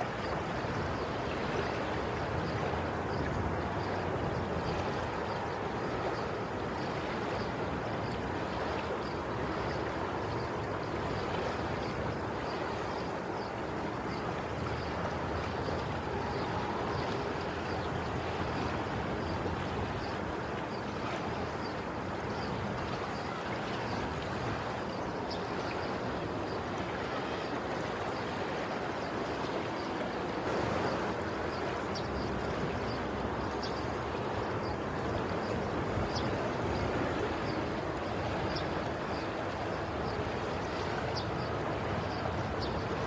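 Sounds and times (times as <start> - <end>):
sea waves washing: 0.0 - 43.0.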